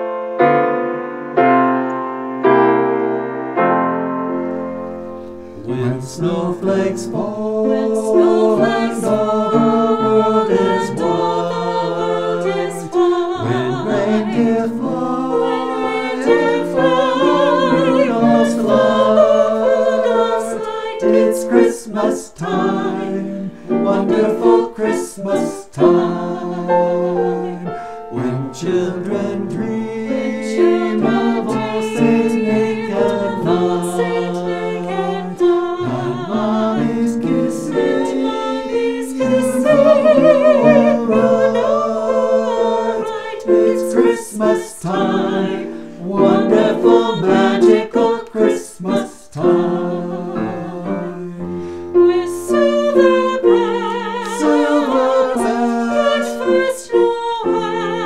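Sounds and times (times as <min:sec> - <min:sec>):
piano accompaniment: 0:00.0 - 0:58.0
group of voices singing: 0:05.2 - 0:58.0.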